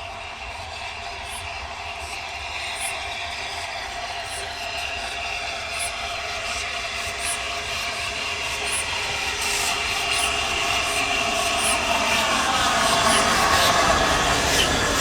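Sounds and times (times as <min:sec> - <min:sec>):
train approaching: 0:00.0 - 0:15.0.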